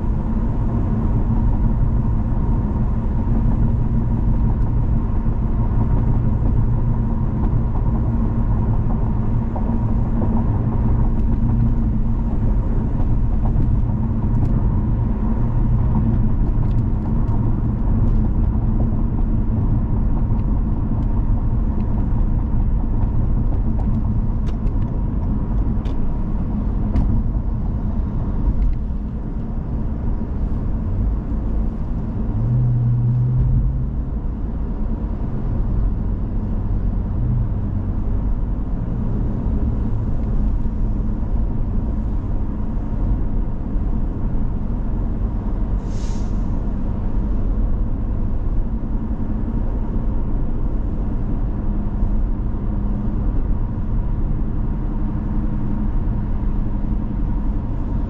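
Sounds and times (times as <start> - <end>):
car road noise rumble: 0.0 - 58.0.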